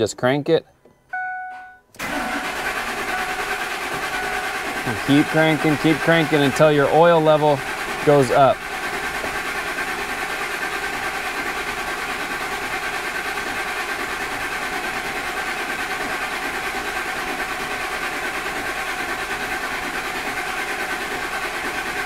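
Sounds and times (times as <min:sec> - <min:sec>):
starter cranking engine: 0:02.0 - 0:22.0.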